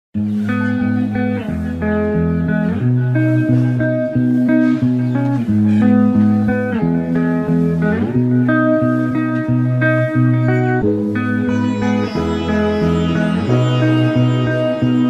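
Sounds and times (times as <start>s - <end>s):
guitar instrumental music: 0.2s - 15.0s.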